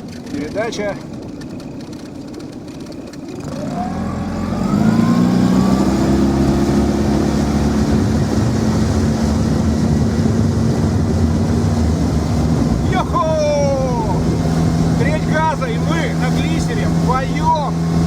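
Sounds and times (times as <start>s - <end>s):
outboard motor revving: 0.0s - 18.0s.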